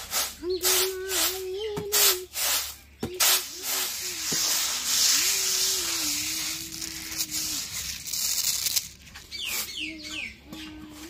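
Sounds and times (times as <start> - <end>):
rice grains rustling on a tray: 0.0 - 9.8.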